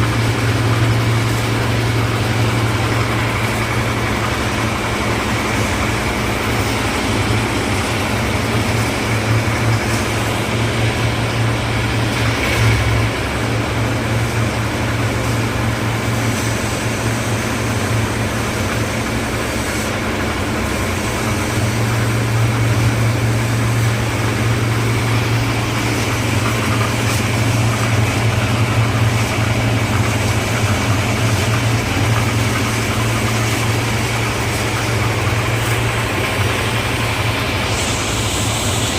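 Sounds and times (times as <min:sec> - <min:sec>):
concrete mixer engine rattling: 0:00.0 - 0:38.9.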